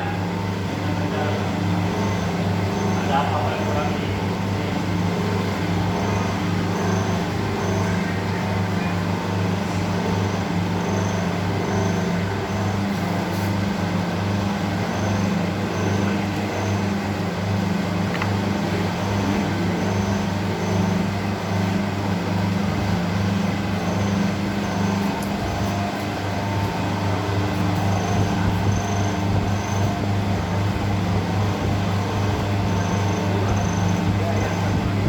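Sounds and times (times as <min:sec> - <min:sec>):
machine humming in pulses: 0:00.0 - 0:35.0.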